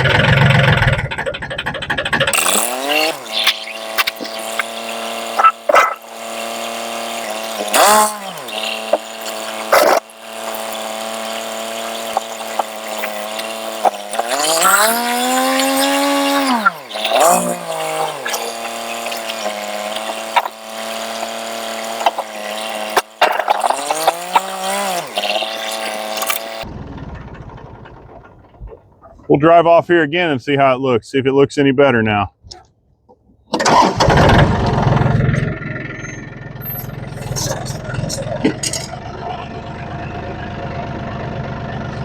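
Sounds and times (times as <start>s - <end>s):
diesel tractor engine running: 0.0s - 29.7s, 33.6s - 42.0s.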